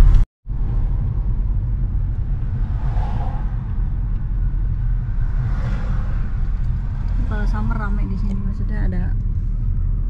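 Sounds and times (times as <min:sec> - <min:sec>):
car engine and road noise inside: 0:00.0 - 0:10.0.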